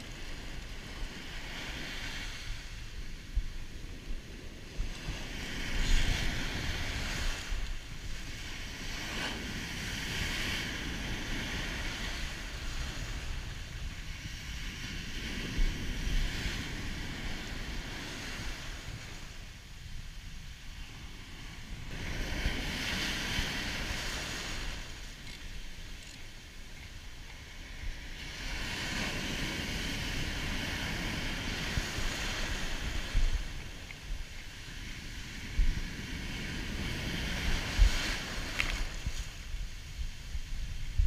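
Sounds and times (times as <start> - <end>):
surf breaking on beach: 0.0 - 41.0
wind buffeting microphone: 0.0 - 41.0.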